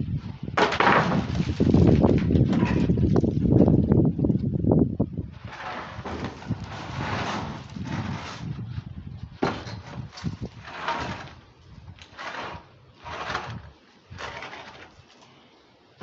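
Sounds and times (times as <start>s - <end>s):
wooden planks sliding and scraping: 0.5s - 4.3s, 5.3s - 15.5s.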